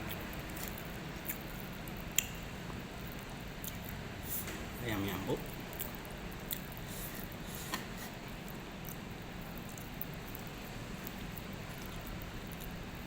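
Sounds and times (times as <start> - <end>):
faint chewing and eating: 0.0 - 13.0
steady background hum: 0.0 - 13.0.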